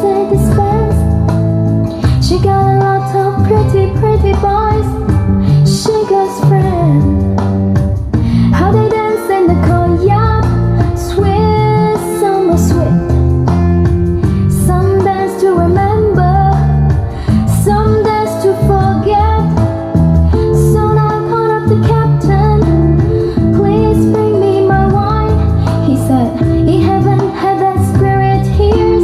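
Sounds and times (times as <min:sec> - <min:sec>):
woman singing: 0:00.0 - 0:01.3, 0:01.9 - 0:07.4, 0:08.2 - 0:13.2, 0:14.2 - 0:29.0
strong bass line: 0:00.0 - 0:29.0.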